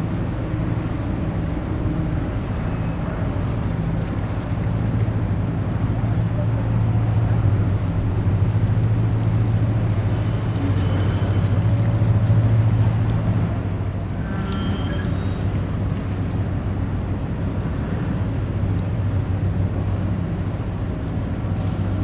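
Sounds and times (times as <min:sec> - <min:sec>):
boat engine drone: 0:00.0 - 0:22.0.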